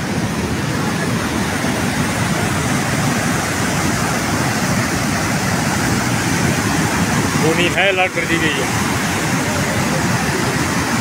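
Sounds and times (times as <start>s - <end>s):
stream torrent rushing: 0.0s - 11.0s.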